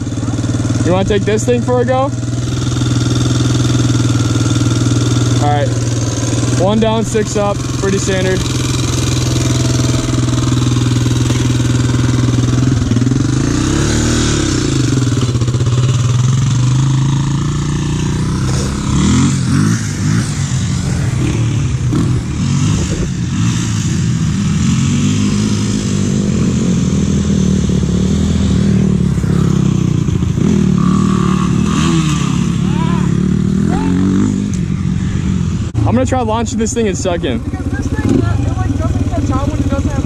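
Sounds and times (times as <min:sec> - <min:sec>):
dirt bike engine idling: 0:00.0 - 0:40.0
engines revving: 0:00.0 - 0:40.0.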